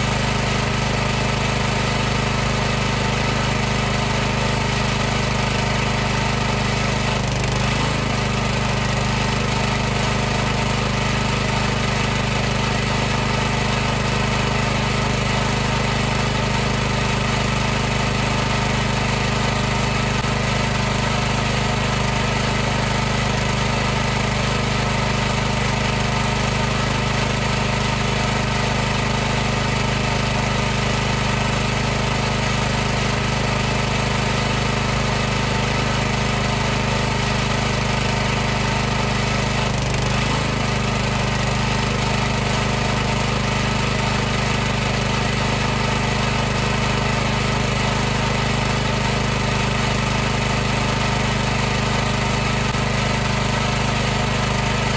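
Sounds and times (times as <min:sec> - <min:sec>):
pressure washer running: 0:00.0 - 0:54.9.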